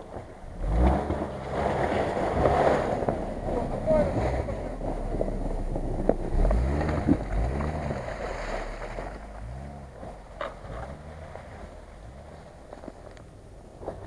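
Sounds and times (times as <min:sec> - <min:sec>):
car driving through mud: 0:00.0 - 0:14.0.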